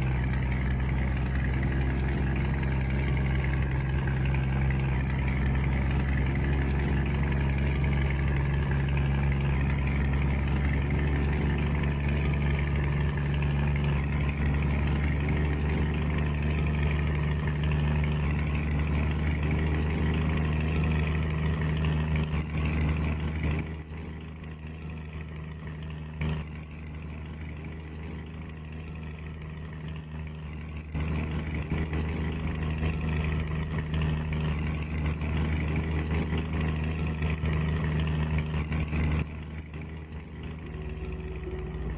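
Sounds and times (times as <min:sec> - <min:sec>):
diesel truck engine running: 0:00.0 - 0:41.9.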